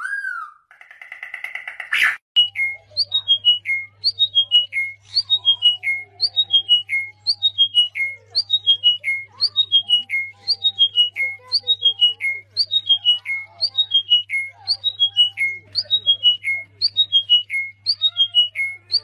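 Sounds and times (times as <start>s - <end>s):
songbird whistled phrase: 2.4s - 19.0s.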